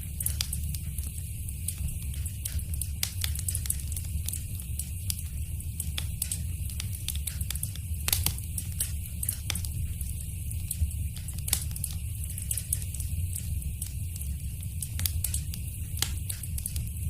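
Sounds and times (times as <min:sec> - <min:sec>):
low rumble of flames: 0:00.0 - 0:17.0
wood fire crackling: 0:00.0 - 0:17.0
sharp fire pops: 0:00.2 - 0:01.1, 0:01.7 - 0:17.0.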